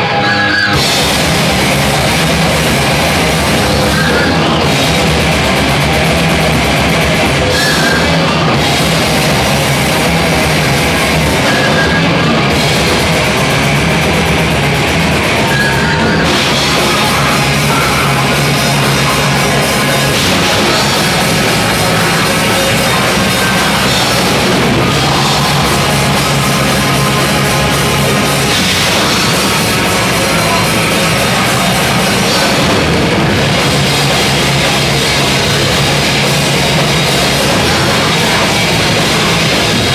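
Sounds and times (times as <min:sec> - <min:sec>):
drum kit: 0:00.0 - 0:39.9
loud rock music: 0:00.0 - 0:39.9.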